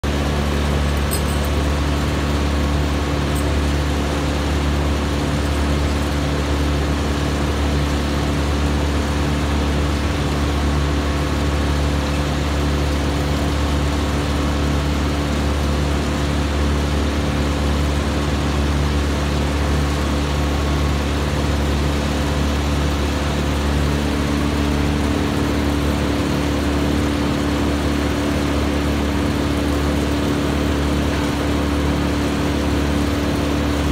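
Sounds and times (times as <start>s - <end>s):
heavy machinery engine droning: 0.0s - 33.9s.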